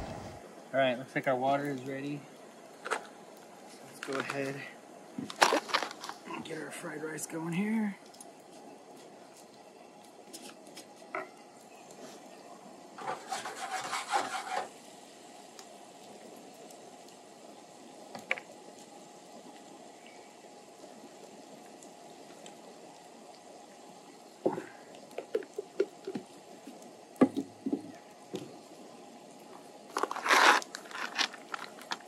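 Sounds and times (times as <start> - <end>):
boiled water hissing: 0.0 - 32.0.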